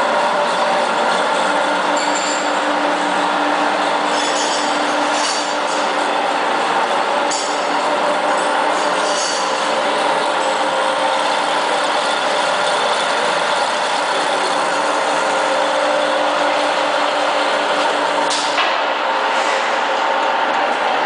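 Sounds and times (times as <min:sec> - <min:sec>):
lathe gear noise: 0:00.0 - 0:21.0.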